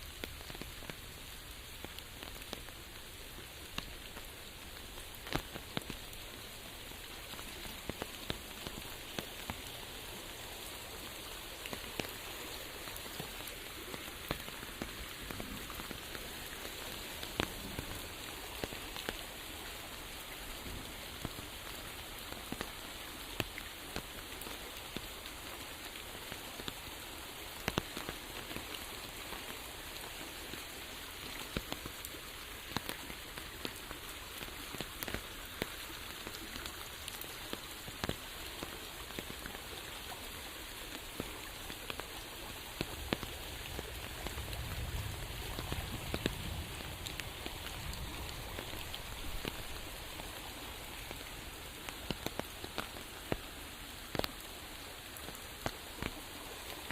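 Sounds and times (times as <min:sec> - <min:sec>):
rain falling on a surface: 0:00.0 - 0:56.9.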